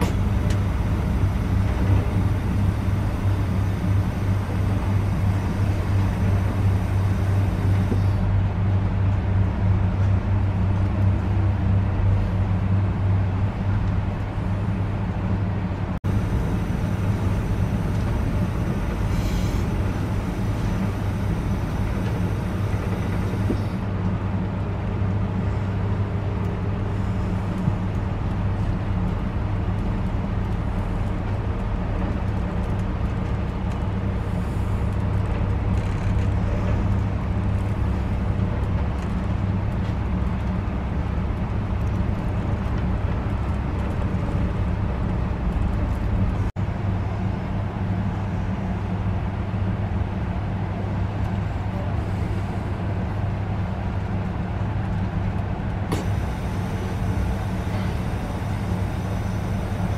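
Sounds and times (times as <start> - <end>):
train rumbling in motion: 0.0 - 59.9.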